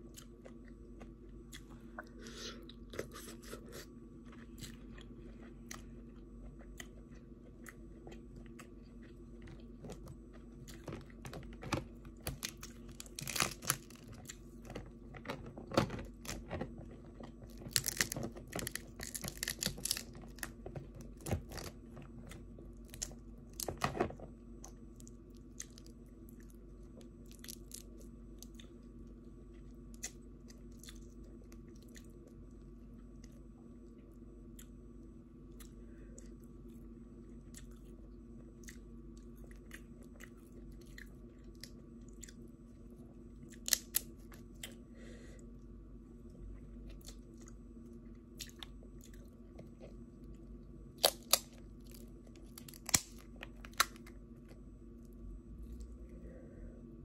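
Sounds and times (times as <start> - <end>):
person chewing crunchy food: 0.0 - 23.9, 24.6 - 34.9, 35.5 - 44.8, 46.5 - 56.4
steady low hum: 0.0 - 57.0.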